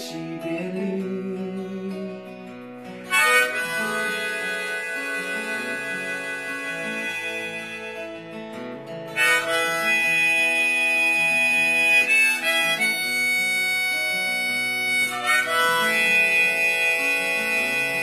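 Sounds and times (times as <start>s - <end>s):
acoustic guitar: 0.0s - 18.0s
harmonica long held notes: 2.9s - 18.0s.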